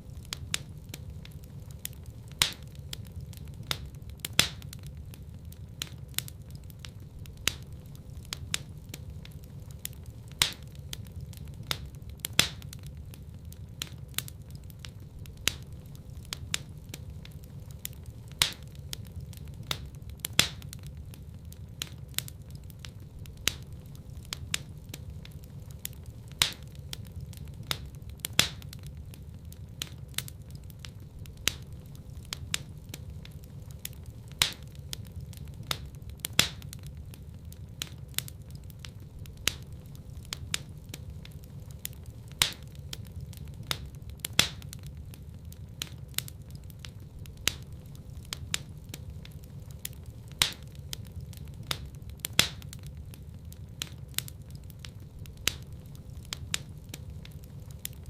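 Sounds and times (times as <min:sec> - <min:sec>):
fire crackling and popping: 0:00.0 - 0:58.0
fire rumbling in fireplace: 0:00.0 - 0:58.0.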